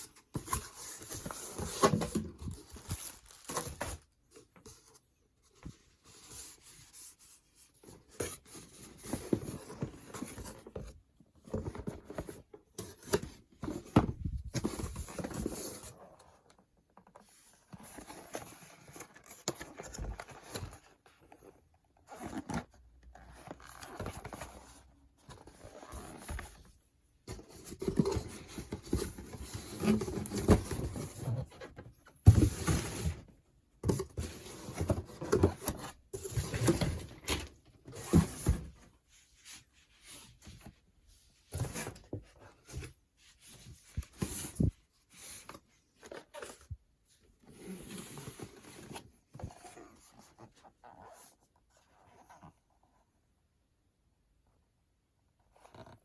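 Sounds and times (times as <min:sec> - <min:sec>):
rustling and scraping of handling: 0:00.0 - 0:53.7.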